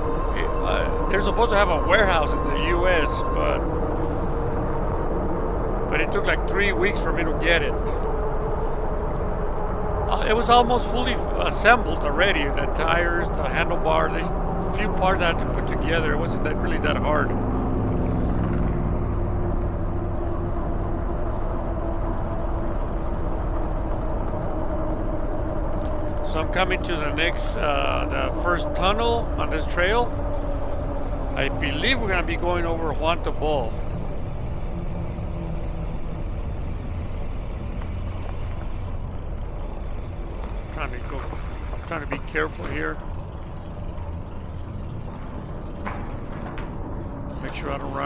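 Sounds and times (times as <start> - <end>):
faint steady whine: 0.0 - 48.0
road noise: 0.0 - 48.0
wind rumble: 0.0 - 48.0.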